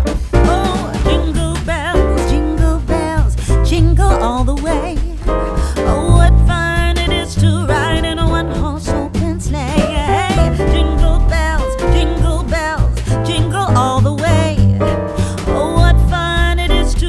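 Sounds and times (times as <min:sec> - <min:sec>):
song with singing and bass: 0:00.0 - 0:17.0.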